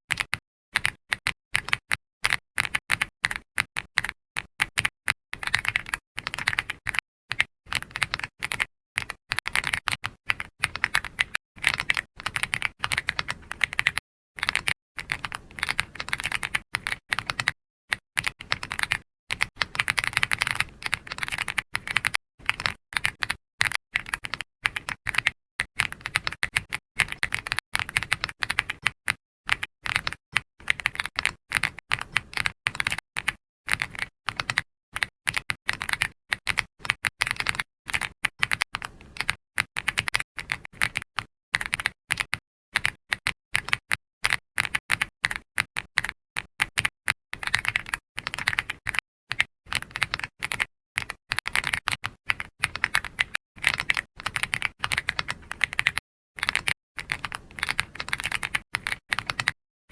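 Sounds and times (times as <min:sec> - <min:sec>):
keyboard typing clicks: 0:04.0 - 0:59.6.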